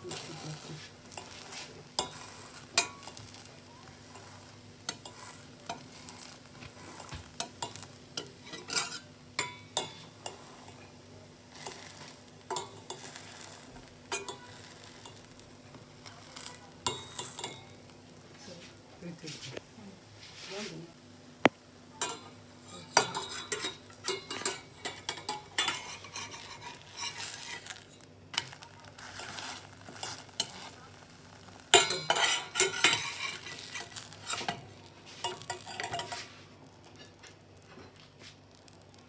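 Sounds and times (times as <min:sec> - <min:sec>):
pancake sizzling in oil: 0:00.0 - 0:39.0
metal spatula scraping frying pan: 0:00.1 - 0:10.9, 0:11.5 - 0:15.4, 0:16.0 - 0:17.8, 0:22.0 - 0:37.2.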